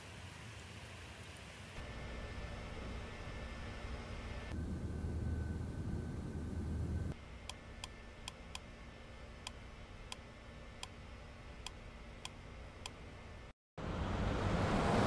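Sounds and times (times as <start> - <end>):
faint hum: 1.8 - 14.0.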